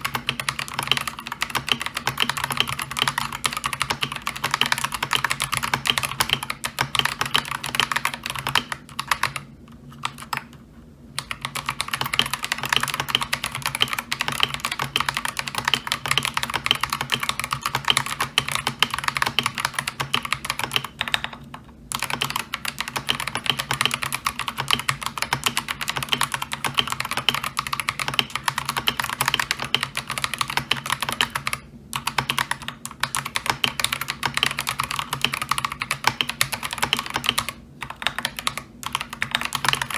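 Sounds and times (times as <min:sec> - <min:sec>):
fast typing on mechanical keyboard: 0:00.0 - 0:10.6, 0:11.2 - 0:39.9.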